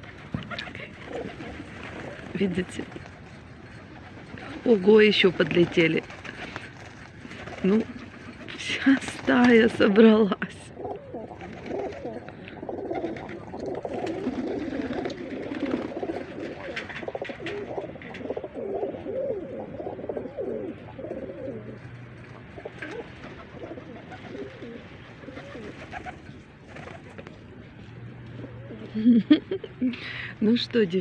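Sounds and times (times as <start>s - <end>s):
pigeons cooing: 0.0s - 9.8s, 10.6s - 30.2s.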